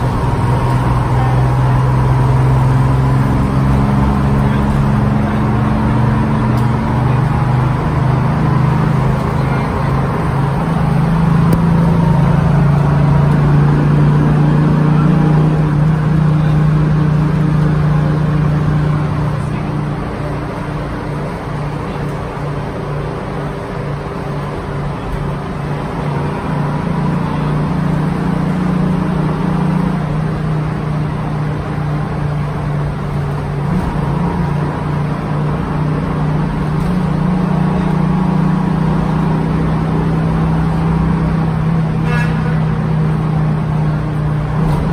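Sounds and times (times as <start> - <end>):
bus engine hum: 0.0 - 44.9
road rumble: 0.0 - 44.9.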